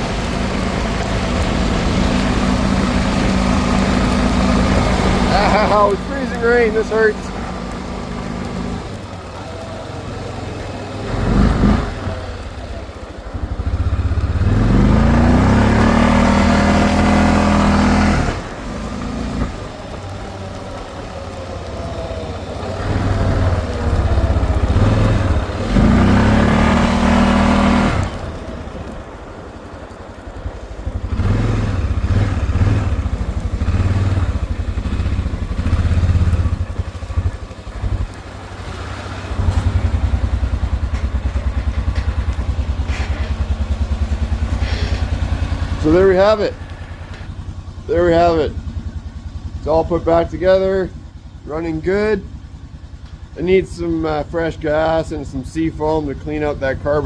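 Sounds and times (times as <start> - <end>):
atv engine accelerating: 0.0 - 57.0.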